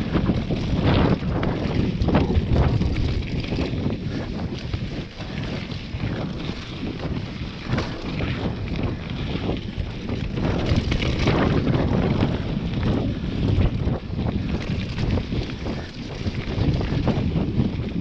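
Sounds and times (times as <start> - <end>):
tyres rumbling on dirt: 0.0 - 17.8
bike knocks and rattles: 0.0 - 18.0
wind buffeting microphone: 0.0 - 18.0.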